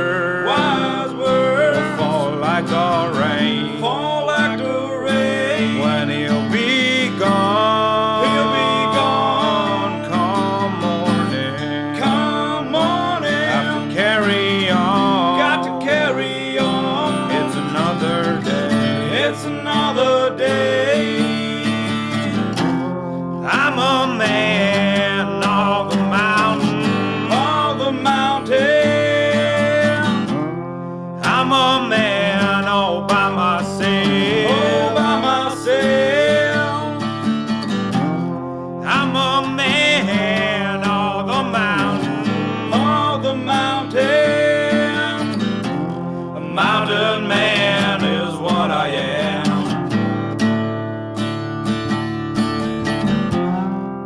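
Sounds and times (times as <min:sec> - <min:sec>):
country music with acoustic guitar: 0:00.0 - 0:54.0.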